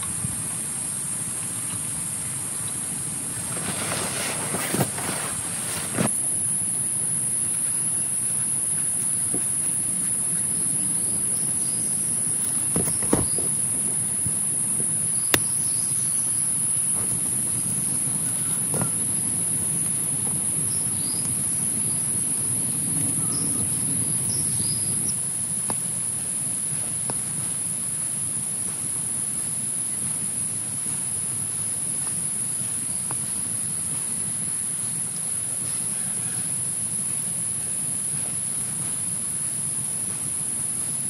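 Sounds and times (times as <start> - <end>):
insects chorus: 0.0 - 41.0.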